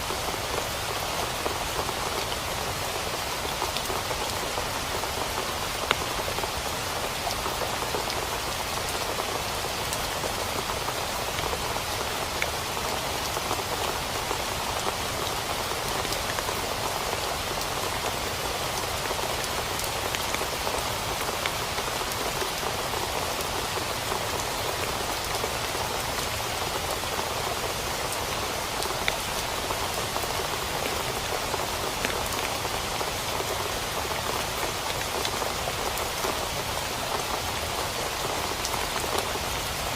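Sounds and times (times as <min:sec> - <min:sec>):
rain pattering on a tent: 0:00.0 - 0:39.9.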